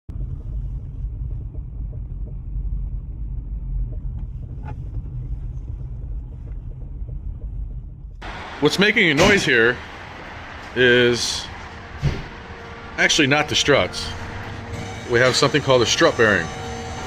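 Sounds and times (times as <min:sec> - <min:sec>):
low road rumble: 0:00.1 - 0:17.0.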